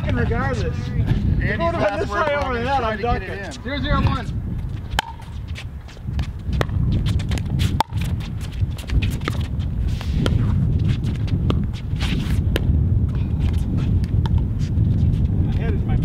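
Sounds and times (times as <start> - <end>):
footsteps on court: 1.8 - 15.8.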